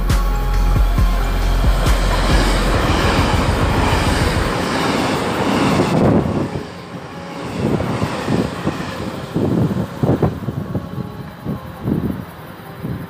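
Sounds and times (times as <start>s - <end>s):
train passing at speed: 0.5s - 13.0s.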